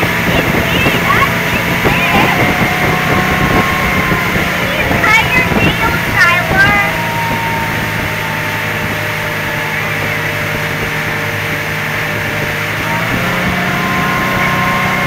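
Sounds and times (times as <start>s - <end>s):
boat engine running: 0.0s - 15.0s
rush of wind and water: 0.0s - 15.0s.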